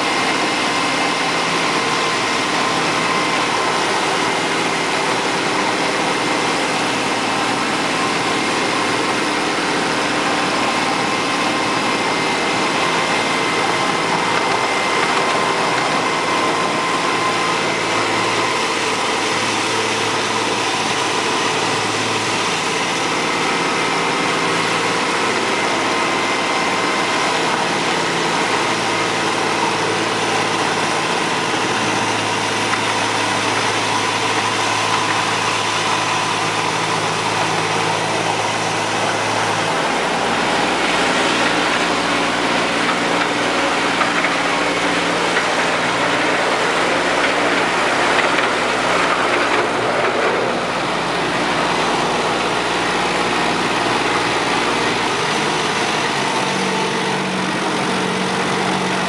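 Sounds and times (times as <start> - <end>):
miniature locomotive running: 0.0 - 59.0.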